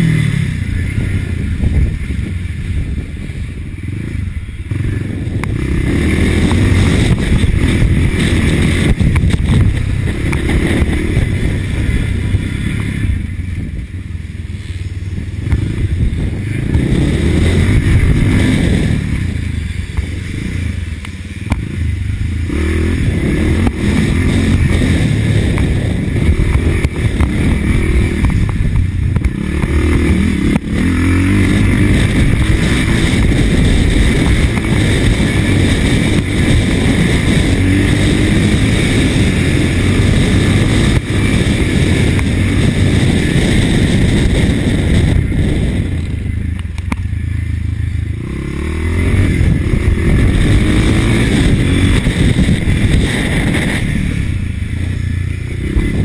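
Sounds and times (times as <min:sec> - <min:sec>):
motocross motorcycle engine revving: 0:00.0 - 0:56.0.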